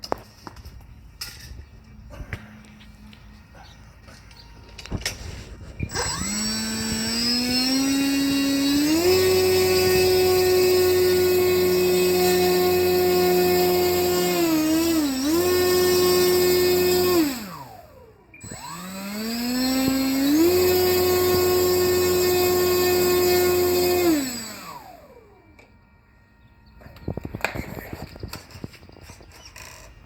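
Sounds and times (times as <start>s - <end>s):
electric motor and propeller whine: 0.1s - 30.0s.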